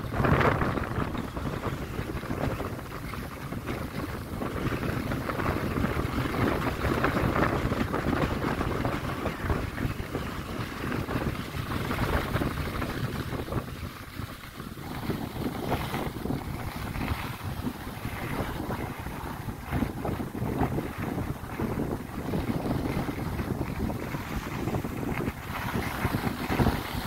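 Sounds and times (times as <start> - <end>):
skis scraping over snow: 0.0 - 27.0
wind rushing over microphone: 0.0 - 27.0.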